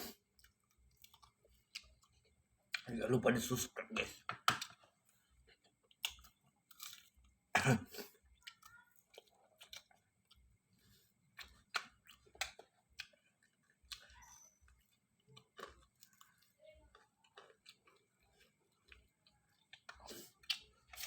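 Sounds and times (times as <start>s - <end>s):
person chewing noodles: 0.0s - 2.9s, 4.5s - 21.0s.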